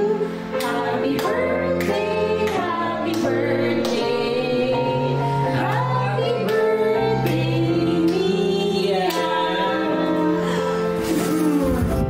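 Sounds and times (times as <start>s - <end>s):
women and children singing: 0.0s - 10.4s.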